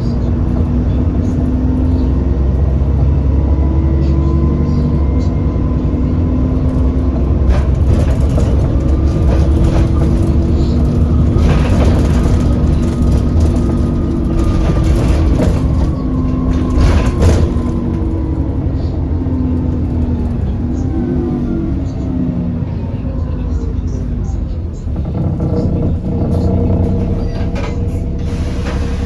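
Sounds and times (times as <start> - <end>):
bus diesel engine droning: 0.0 - 29.0.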